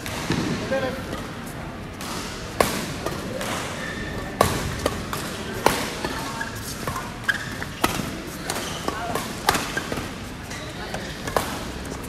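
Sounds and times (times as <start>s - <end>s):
rackets hitting shuttlecock: 0.0s - 12.0s.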